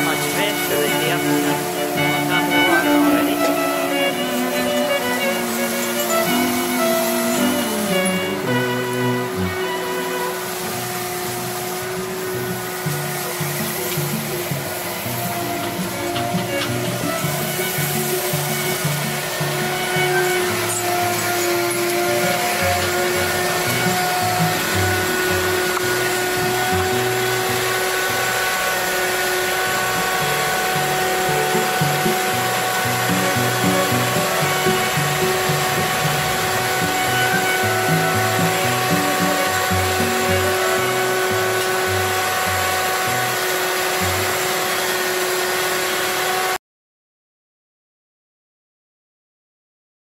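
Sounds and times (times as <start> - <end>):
machine-like hum and hiss: 0.0 - 46.6.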